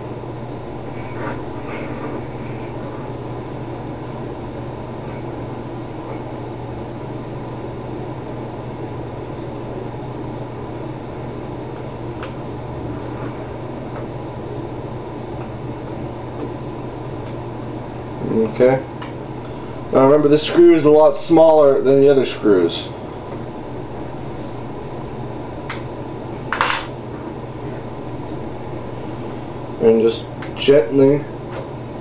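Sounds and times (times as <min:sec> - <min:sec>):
background hum and hiss: 0:00.0 - 0:32.0.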